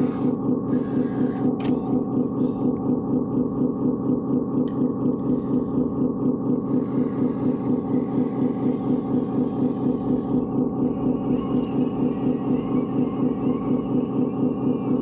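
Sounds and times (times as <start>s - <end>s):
pulsing engine-like drone: 0.0s - 15.0s.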